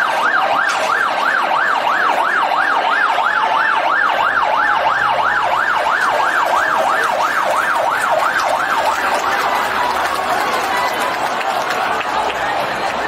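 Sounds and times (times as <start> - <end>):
fire engine siren yelping: 0.0 - 13.0.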